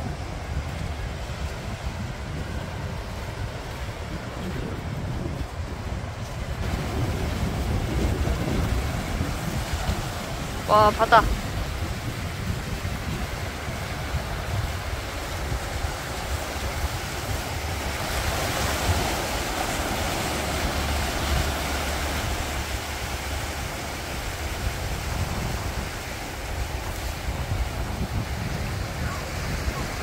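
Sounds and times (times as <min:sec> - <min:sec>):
sea surf washing on shore: 0:00.0 - 0:30.0
wind gusting on microphone: 0:00.0 - 0:30.0.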